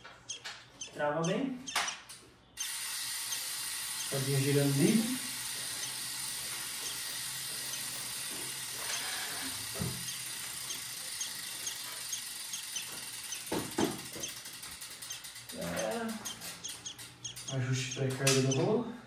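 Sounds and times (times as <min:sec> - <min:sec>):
light regular ticking: 0:00.0 - 0:18.7
bicycle wheel spinning on trainer: 0:02.6 - 0:18.1.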